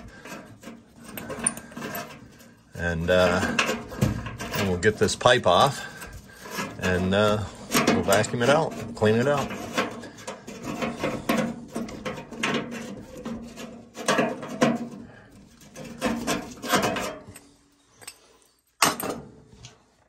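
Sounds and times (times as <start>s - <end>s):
sheet metal clanking and scraping: 0.0s - 17.6s.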